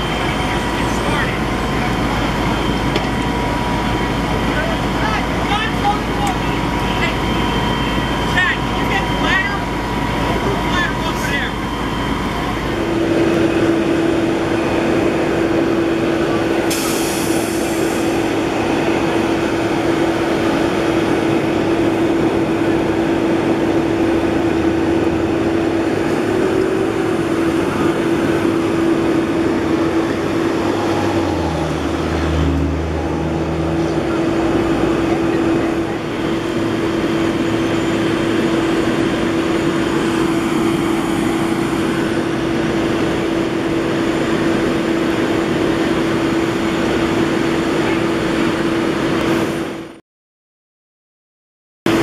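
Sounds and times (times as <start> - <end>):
truck engines droning: 0.0 - 50.0.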